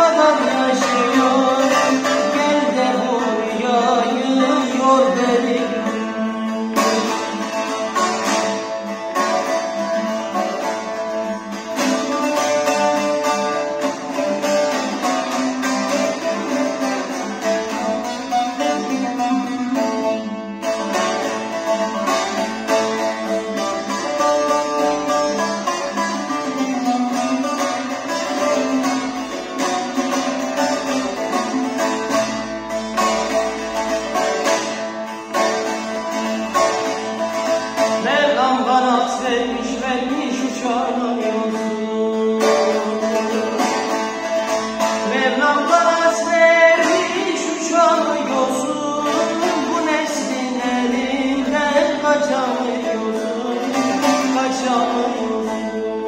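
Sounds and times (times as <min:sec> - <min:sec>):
long-necked lute fast strumming: 0:00.0 - 0:56.0.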